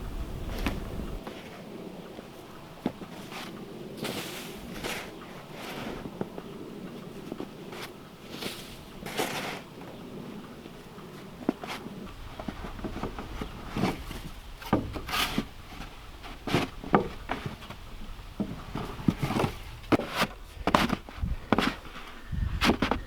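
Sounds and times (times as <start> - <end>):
crunches in deep snow: 0.1 - 23.0.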